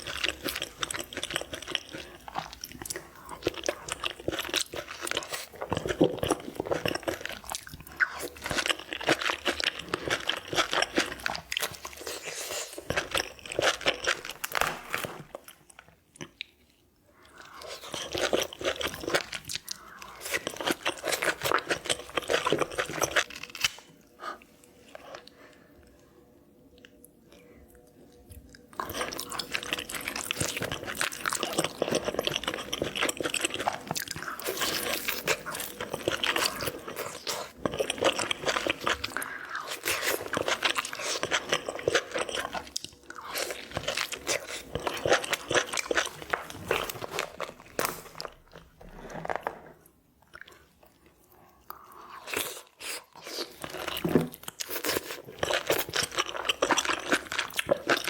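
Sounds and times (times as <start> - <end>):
crunching and chewing: 0.0 - 26.0, 26.6 - 58.0.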